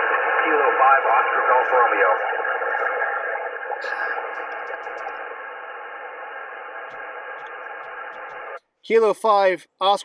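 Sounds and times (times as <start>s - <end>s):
faint steady tones: 0.0s - 8.6s
radio static hiss: 0.0s - 8.6s.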